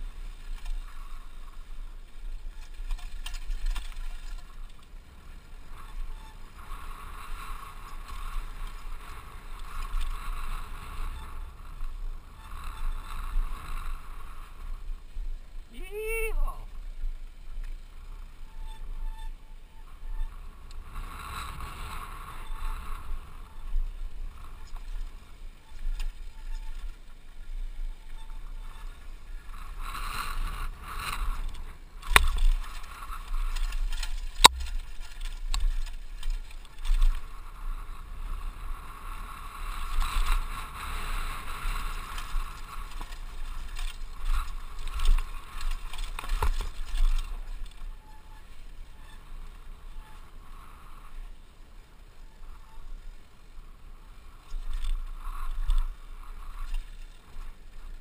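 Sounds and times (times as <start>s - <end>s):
bike tyres and rattle on dirt: 0.0s - 58.0s.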